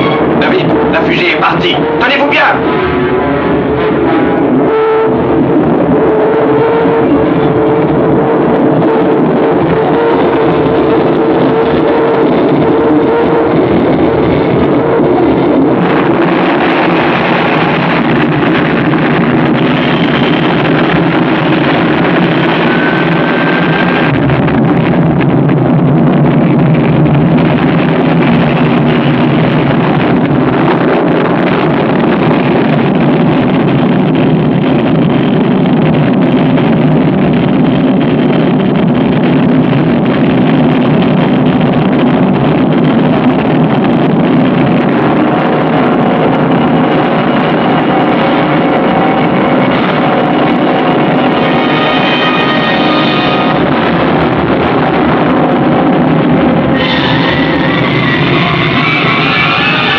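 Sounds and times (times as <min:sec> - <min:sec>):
music: 0:00.0 - 0:59.9
rocket engine roar: 0:00.0 - 0:59.9.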